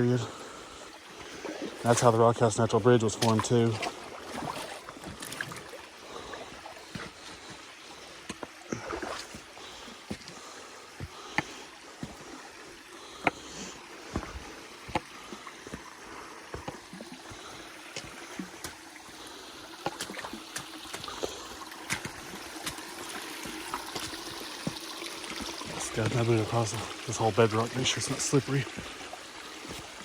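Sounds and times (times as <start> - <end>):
creek water trickling over rock: 0.0 - 30.0
boots splashing through water: 0.2 - 30.0.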